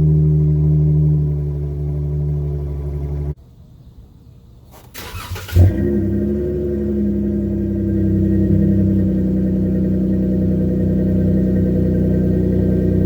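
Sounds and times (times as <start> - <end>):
car engine starting and idling: 0.0 - 3.4, 4.7 - 13.0.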